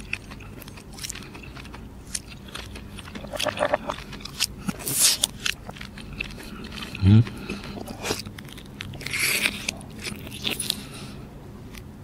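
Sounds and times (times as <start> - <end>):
close chewing: 0.0 - 11.9.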